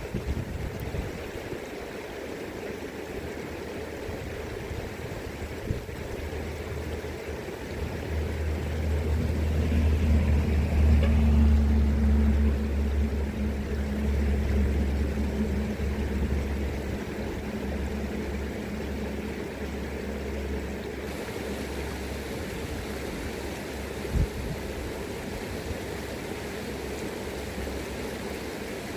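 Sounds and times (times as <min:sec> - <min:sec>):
river current rushing: 0:00.0 - 0:28.9
low rumble with hum: 0:04.2 - 0:28.9.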